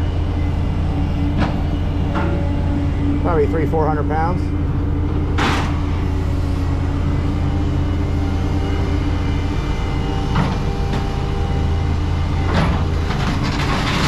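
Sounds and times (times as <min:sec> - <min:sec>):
scrap shear low drone: 0:00.0 - 0:14.0.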